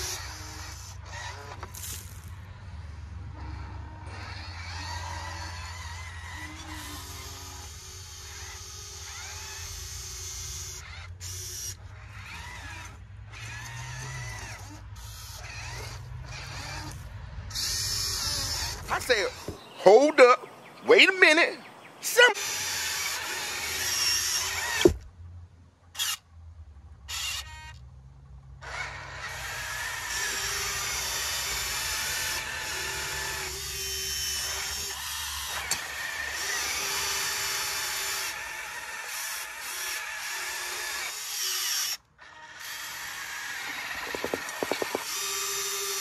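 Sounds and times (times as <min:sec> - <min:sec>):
toy electric motors whining: 0:00.0 - 0:19.8, 0:22.0 - 0:25.1, 0:25.9 - 0:26.3, 0:27.0 - 0:27.9, 0:28.6 - 0:46.0.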